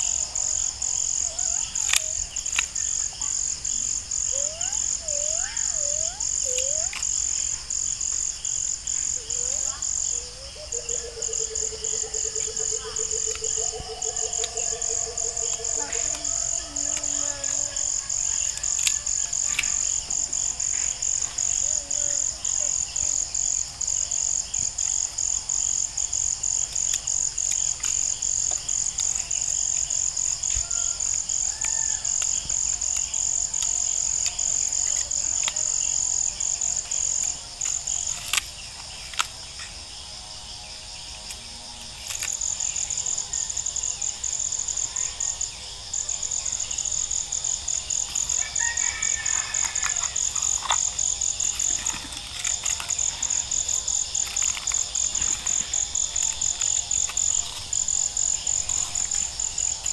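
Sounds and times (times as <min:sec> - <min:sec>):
insect trilling: 0:00.0 - 0:59.9.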